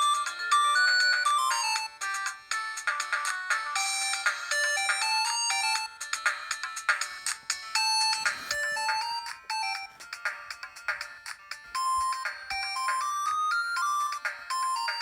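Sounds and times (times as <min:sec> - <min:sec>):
phone ringtone melody: 0:00.0 - 0:06.6, 0:08.7 - 0:15.0.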